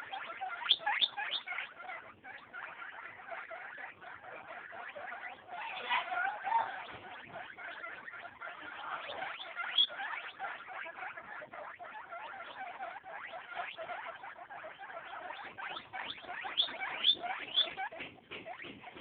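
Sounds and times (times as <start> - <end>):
guinea pig pups squeaking: 0.0 - 19.0.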